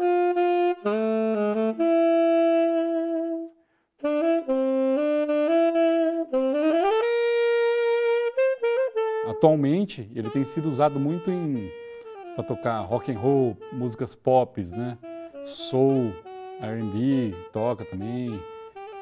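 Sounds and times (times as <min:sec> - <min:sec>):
tenor saxophone playing: 0:00.0 - 0:19.0.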